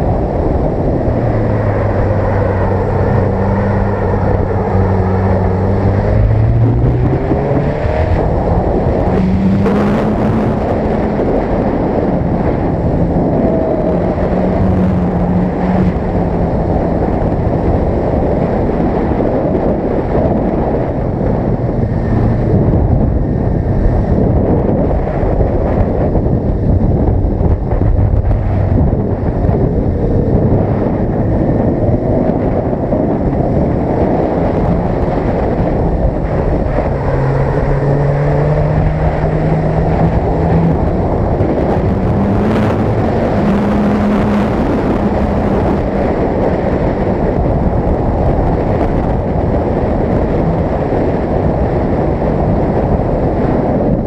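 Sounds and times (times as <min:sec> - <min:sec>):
motorcycle engine revving: 0:00.0 - 0:53.6
heavy wind rush on microphone: 0:00.0 - 0:54.0.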